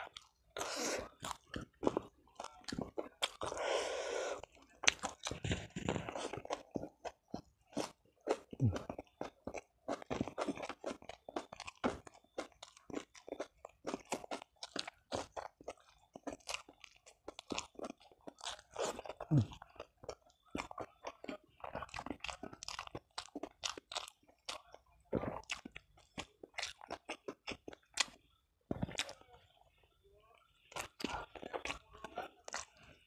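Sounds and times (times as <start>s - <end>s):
person chewing and crunching food: 0.0s - 33.0s.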